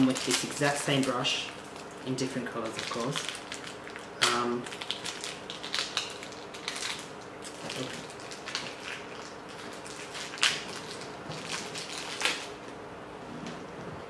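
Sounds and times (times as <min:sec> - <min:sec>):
plastic wrapping crinkling: 0:00.0 - 0:12.8.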